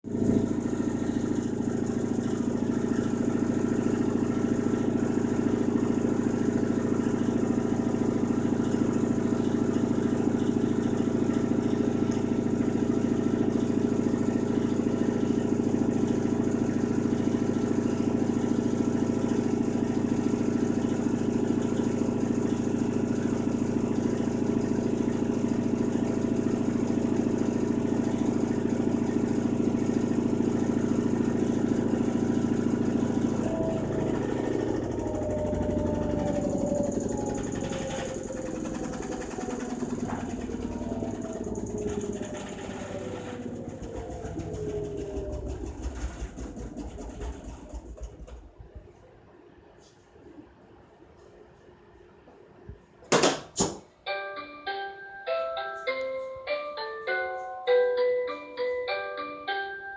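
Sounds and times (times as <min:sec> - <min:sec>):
washing machine motor hum: 0:00.0 - 0:50.6.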